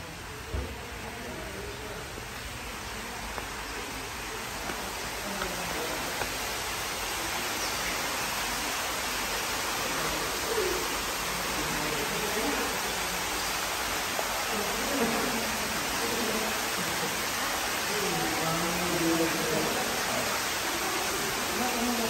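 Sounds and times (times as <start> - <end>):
faint murmur of voices: 0.0 - 22.0
water splashing in fountain basin: 0.0 - 22.0.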